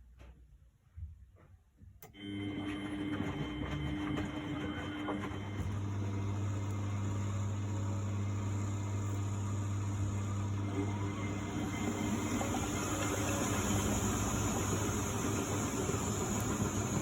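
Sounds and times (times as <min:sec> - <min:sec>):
washing machine humming: 0:02.1 - 0:17.0.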